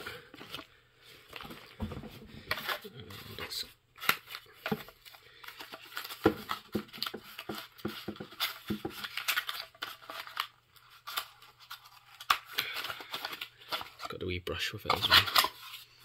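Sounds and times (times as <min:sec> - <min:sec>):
plastic packaging crinkling: 0:00.1 - 0:14.1.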